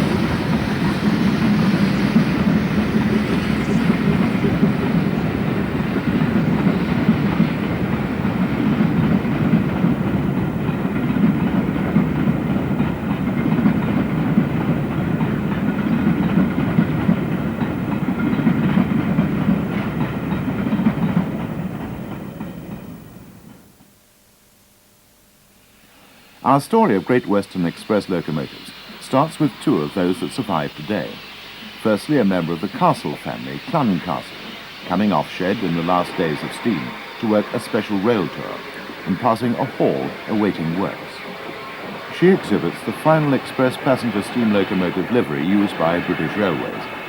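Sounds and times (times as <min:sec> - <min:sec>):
steam train running: 0:00.0 - 0:23.8, 0:25.6 - 0:47.0.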